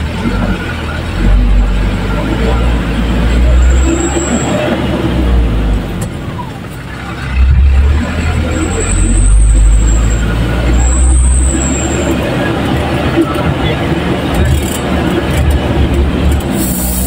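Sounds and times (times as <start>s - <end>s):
road noise on dirt road: 0.0s - 17.0s
truck engine rumble: 0.0s - 17.0s.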